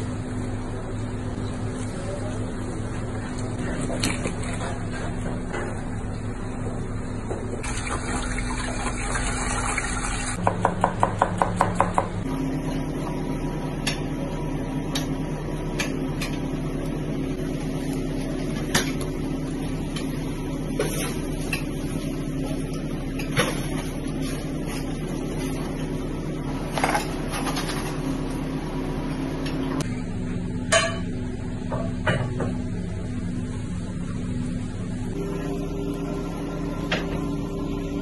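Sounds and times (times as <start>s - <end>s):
steady background hum: 0.0s - 38.0s.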